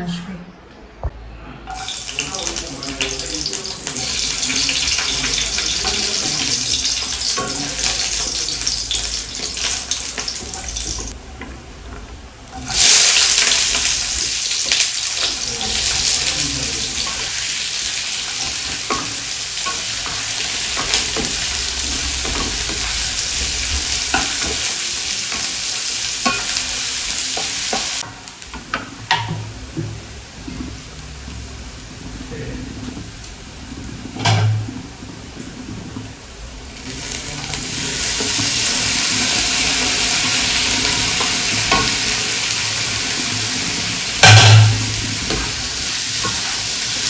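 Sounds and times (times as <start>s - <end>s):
loud sizzle in hot oil: 1.7s - 47.0s.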